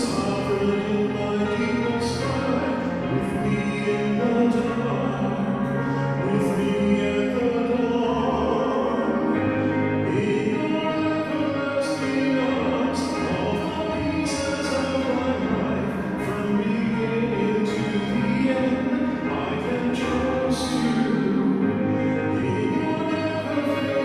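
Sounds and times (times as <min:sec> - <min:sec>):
sustained accompaniment: 0:00.0 - 0:24.0.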